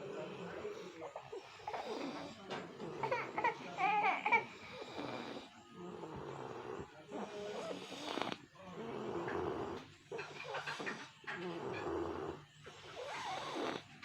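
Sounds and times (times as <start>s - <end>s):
person snoring: 0.0s - 13.9s.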